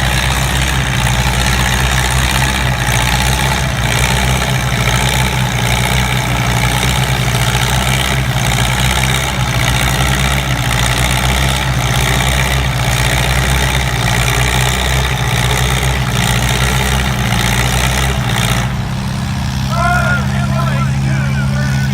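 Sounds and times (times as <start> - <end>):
tractor engine deep drone: 0.0 - 21.9.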